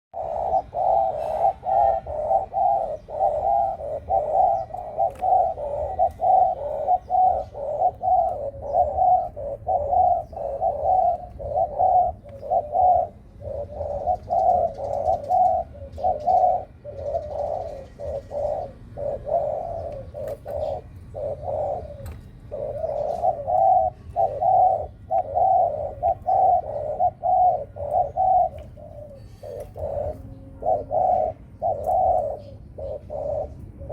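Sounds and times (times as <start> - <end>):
dove cooing: 0.2 - 33.9.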